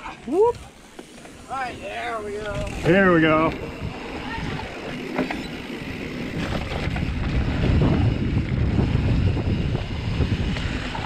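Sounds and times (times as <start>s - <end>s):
bike tyres rumbling over dirt: 0.1s - 11.0s
wind buffeting microphone: 2.1s - 11.0s.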